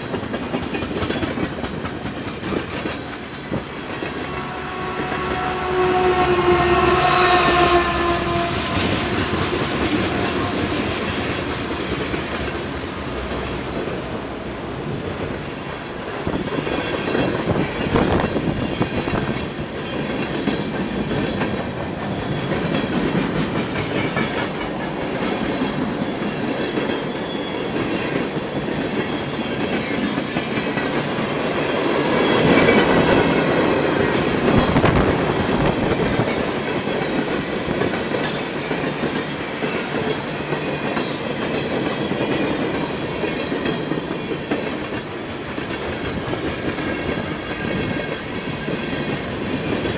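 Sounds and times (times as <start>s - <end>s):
train wheels clicking over rail joints: 0.0s - 49.9s.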